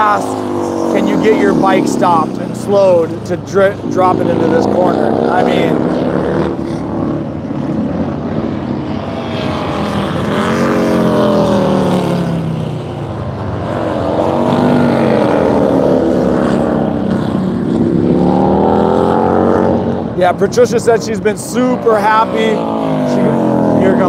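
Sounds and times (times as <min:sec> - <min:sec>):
motorcycle engines: 0:00.0 - 0:24.0.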